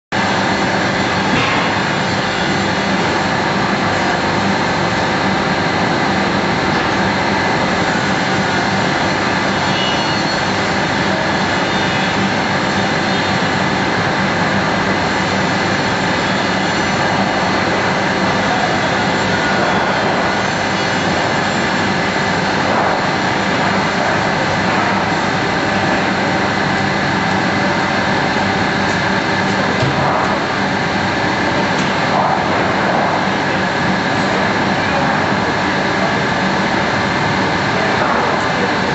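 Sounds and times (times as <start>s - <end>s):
industrial machine whirring: 0.1s - 38.9s.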